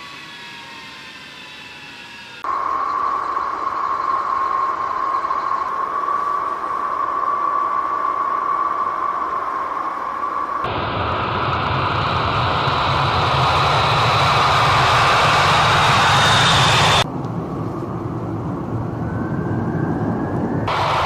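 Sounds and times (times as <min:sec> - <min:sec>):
engine deep rumble and whine: 0:00.0 - 0:21.0
jet engines roaring and whining: 0:00.0 - 0:21.0.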